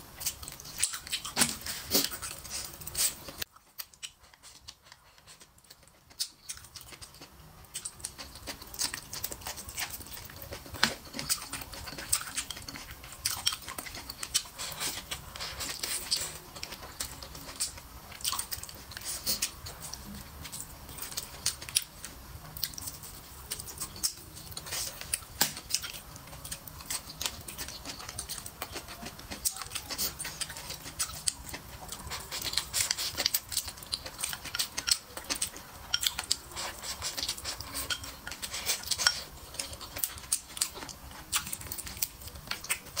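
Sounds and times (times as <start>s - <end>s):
chewing and mouth smacking: 0.2s - 43.0s.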